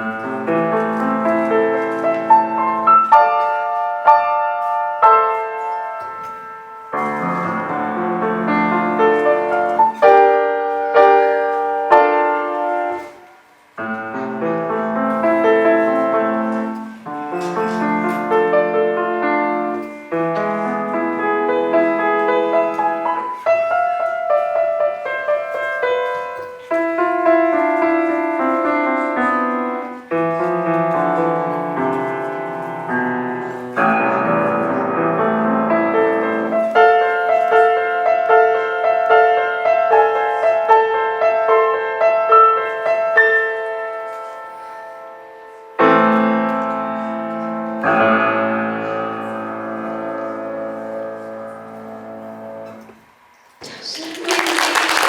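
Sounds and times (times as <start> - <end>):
solo piano piece: 0.0 - 55.0.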